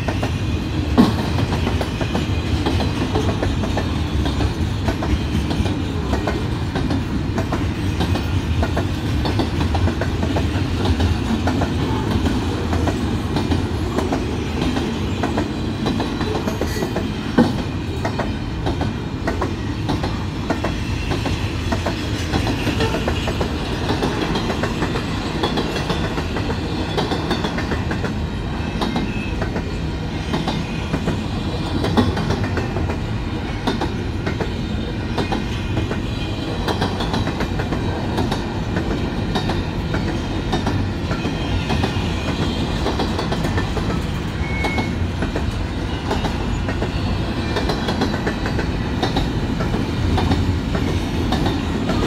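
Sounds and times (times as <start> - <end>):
clickety-clack of train wheels: 0.0 - 52.0
train cars rumbling past: 0.0 - 52.0.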